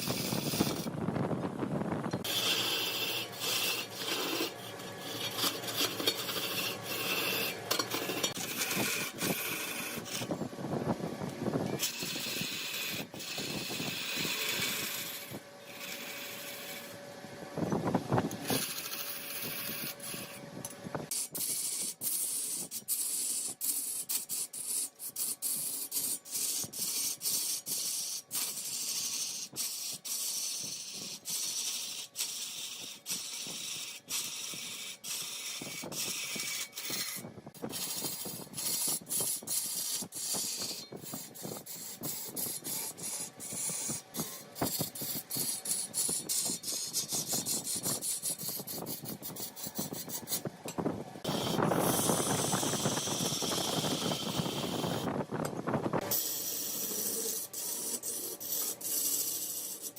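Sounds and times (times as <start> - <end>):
wood lathe shaving wood: 0.0 - 0.9, 2.2 - 10.4, 11.2 - 17.2, 18.3 - 20.5, 21.1 - 50.5, 51.2 - 55.2, 56.0 - 59.9.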